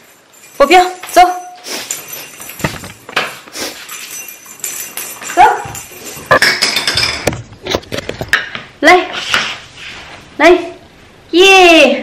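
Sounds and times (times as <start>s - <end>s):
household clatter and rustling: 0.0s - 10.1s.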